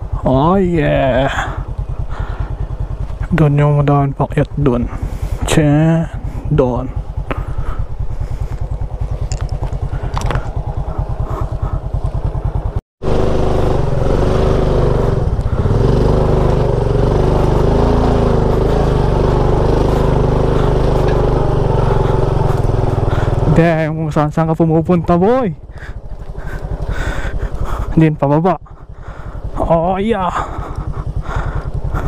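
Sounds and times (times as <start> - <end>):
small motorcycle engine running: 0.0 - 32.0.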